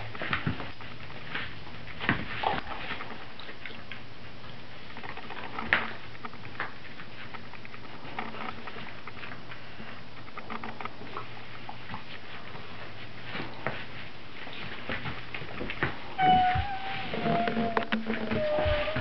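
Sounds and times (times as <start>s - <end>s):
dogs scuffling and clicking: 0.0s - 19.0s.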